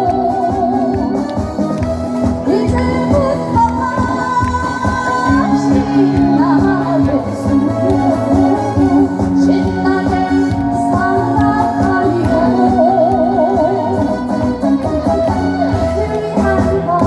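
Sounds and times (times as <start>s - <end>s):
amplified band: 0.0s - 17.0s
person singing with vibrato: 0.0s - 17.0s.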